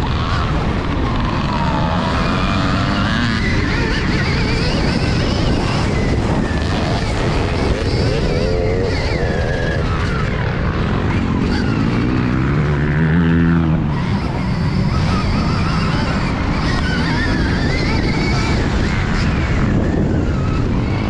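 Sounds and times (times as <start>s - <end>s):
vehicle motor running: 0.0s - 21.0s.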